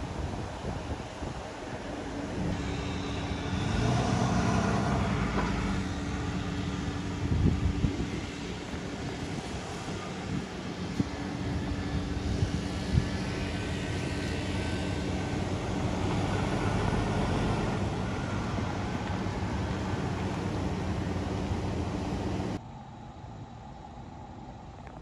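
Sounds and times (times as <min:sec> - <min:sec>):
engine running with low hum: 0:00.0 - 0:25.0.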